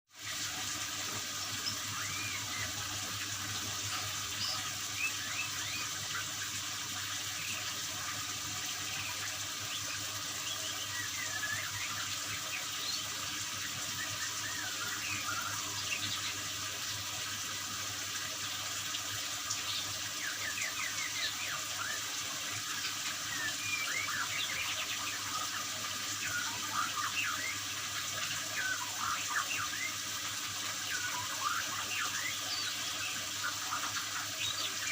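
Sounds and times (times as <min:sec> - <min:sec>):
running water: 0:00.1 - 0:34.9.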